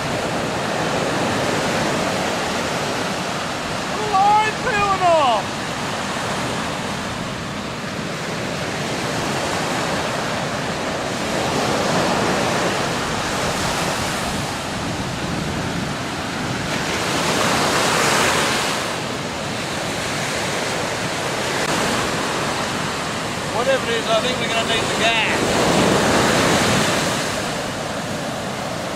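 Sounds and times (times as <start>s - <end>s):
ocean surf breaking on beach: 0.0s - 28.9s
wind buffeting microphone: 0.0s - 28.9s.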